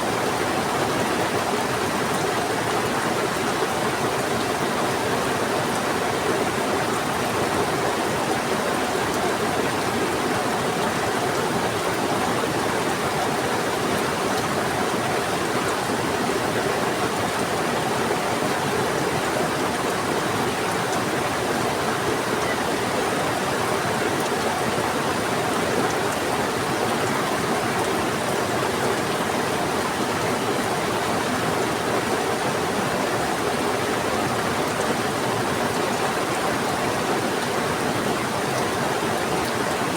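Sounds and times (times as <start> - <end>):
fast-flowing river: 0.0 - 39.9
heavy rain: 0.0 - 39.9.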